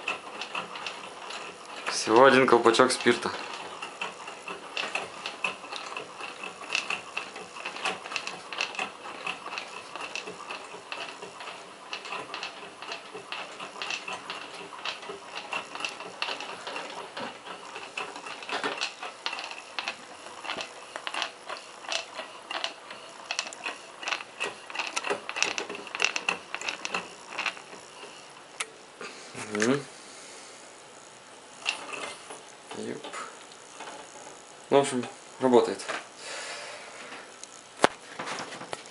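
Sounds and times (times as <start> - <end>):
model engine linkage clattering: 0.0 - 28.6, 31.5 - 36.0.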